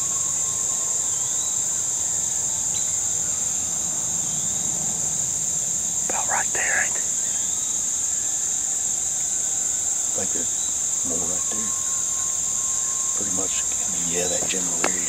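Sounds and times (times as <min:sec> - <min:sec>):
distant coyotes howling: 0:00.0 - 0:15.0
insects chorus: 0:00.0 - 0:15.0.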